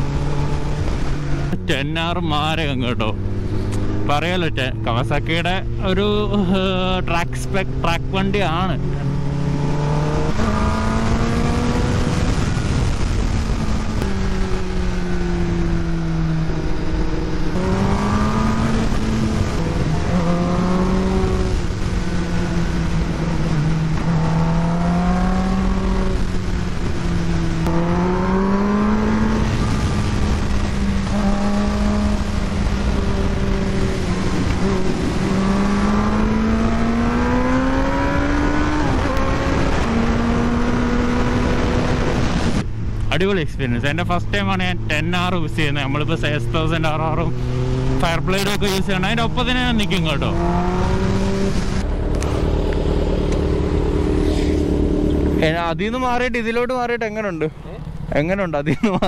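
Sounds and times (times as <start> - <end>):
motorcycle engine revving: 0.0 - 58.8.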